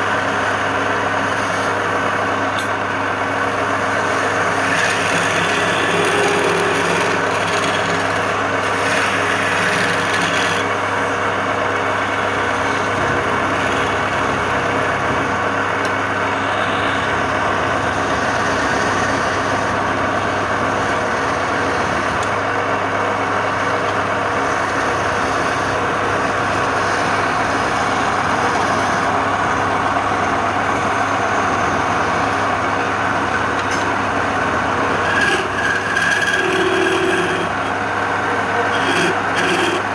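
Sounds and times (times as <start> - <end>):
lathe motor humming: 0.0 - 39.9
tool scraping spinning wood: 0.0 - 39.9.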